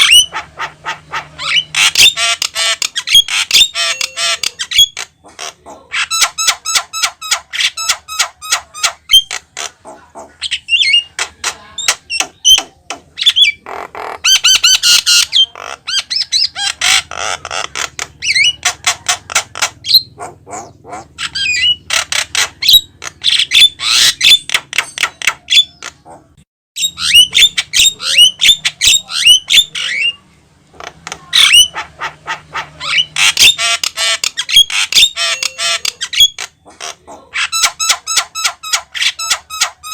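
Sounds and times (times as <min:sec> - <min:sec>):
bird singing chattering notes: 0:00.0 - 0:26.2, 0:26.8 - 0:30.2, 0:31.2 - 0:36.8.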